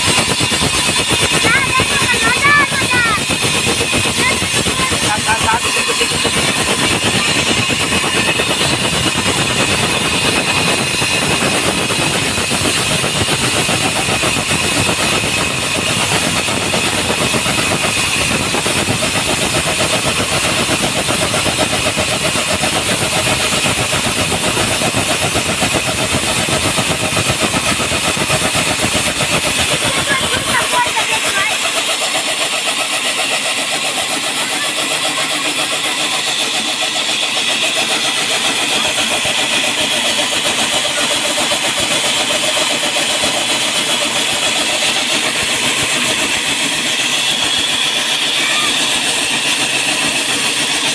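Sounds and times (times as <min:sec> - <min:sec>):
core drill cutting concrete: 0:00.0 - 0:50.9.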